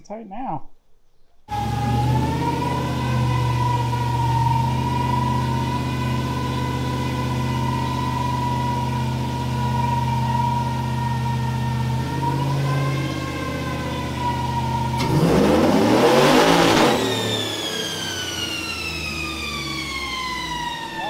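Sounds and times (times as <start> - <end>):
car engine revving on a dyno: 1.5 - 21.0.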